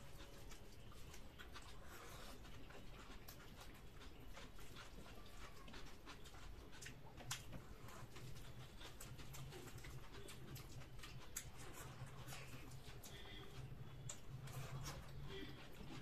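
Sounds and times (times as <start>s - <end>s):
mouths chewing: 0.0s - 16.0s.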